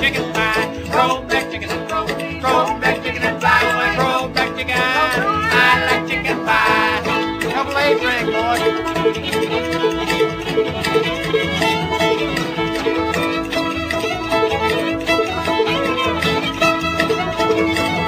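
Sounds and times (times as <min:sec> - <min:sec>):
banjo: 0:00.0 - 0:18.0
fiddle lead: 0:00.0 - 0:18.0
guitar: 0:00.0 - 0:18.0
upright bass: 0:00.0 - 0:18.0.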